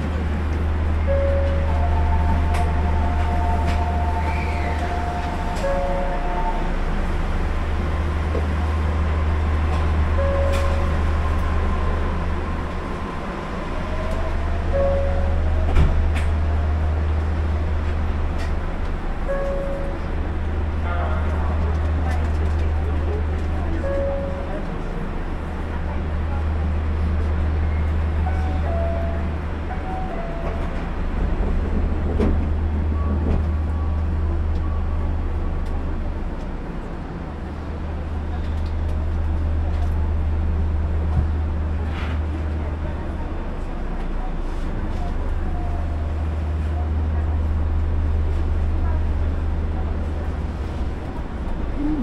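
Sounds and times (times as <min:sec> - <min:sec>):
train low hum: 0:00.0 - 0:52.0.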